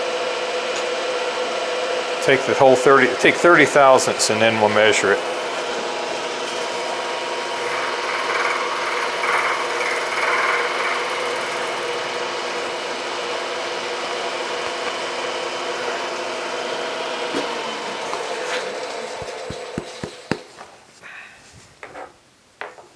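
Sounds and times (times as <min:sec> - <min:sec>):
milling machine hum: 0:00.2 - 0:20.6.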